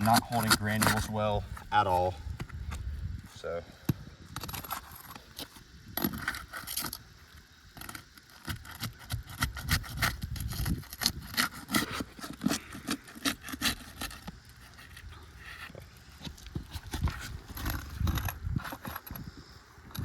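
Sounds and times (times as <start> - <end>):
roof shingles scraping and clicking: 0.0 - 2.0, 4.4 - 19.2.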